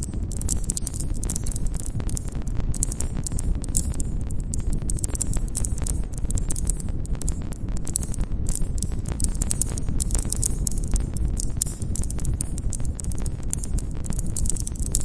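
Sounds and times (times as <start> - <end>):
campfire crackling: 0.1 - 15.0.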